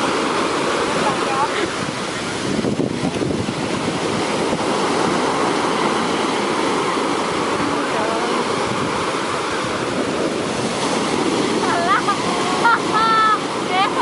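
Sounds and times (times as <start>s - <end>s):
surf breaking on beach: 0.0s - 14.0s.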